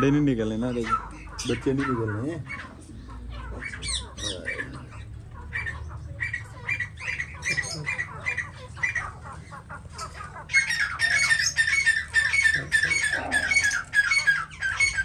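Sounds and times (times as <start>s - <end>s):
caged birds squawking: 0.0s - 15.0s.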